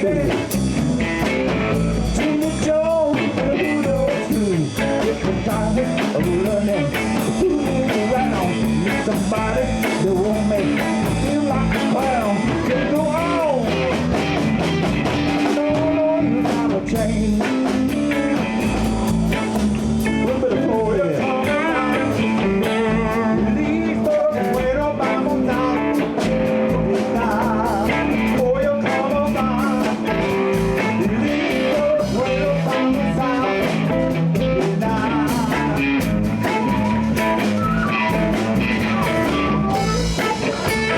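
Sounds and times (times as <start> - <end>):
bass: 0.0 - 40.9
drums: 0.0 - 40.9
electric guitar: 0.0 - 40.9.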